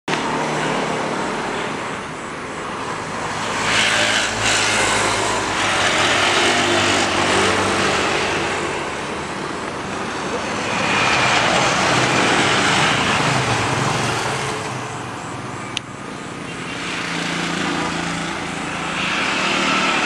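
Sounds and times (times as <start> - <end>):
jet engines idling: 0.2 - 20.0.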